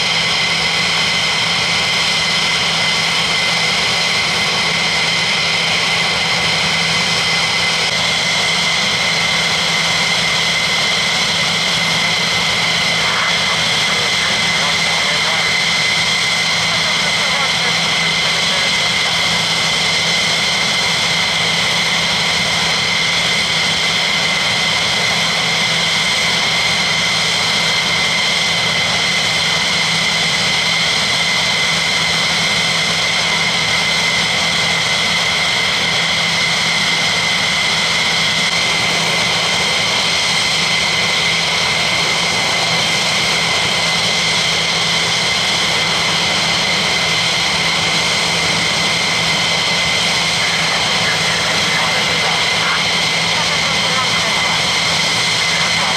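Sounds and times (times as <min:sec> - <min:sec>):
jet engines idling: 0:00.0 - 0:55.9.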